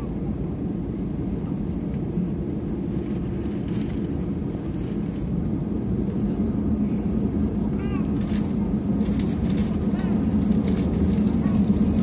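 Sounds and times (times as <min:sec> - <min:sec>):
airliner engine drone: 0:00.0 - 0:12.0.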